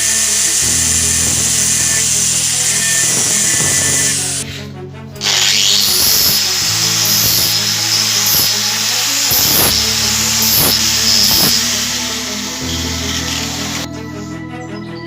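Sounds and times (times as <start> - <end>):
power tool working metal: 0.0 - 4.6, 5.2 - 13.9
background music: 0.0 - 15.0.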